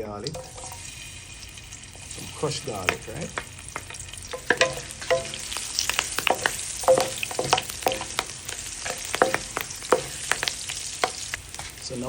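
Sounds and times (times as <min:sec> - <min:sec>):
spices sizzling in oil: 0:00.0 - 0:12.0
stirring ticks in pan: 0:00.2 - 0:12.0.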